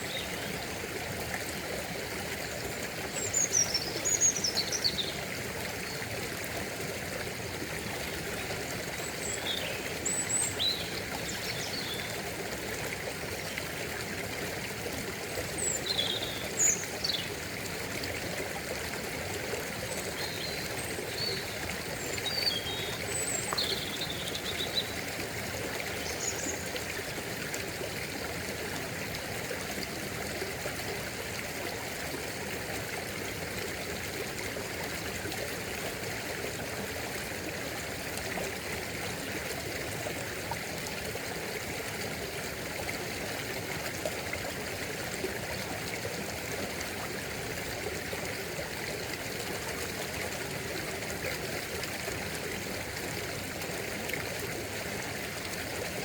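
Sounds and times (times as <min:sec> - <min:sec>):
stream running water: 0:00.0 - 0:56.0.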